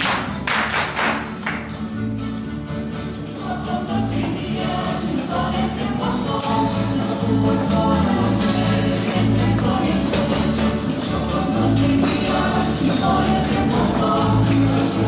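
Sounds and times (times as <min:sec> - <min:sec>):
folk dance music: 0:00.0 - 0:15.0
tambourine beat: 0:00.0 - 0:15.0.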